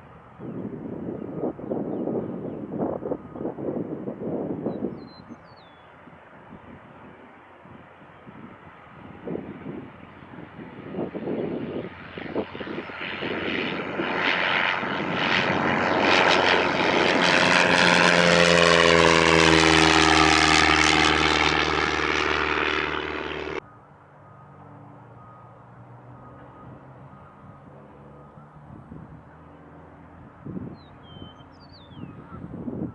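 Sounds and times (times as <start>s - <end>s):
propeller airplane passing: 5.4s - 32.9s.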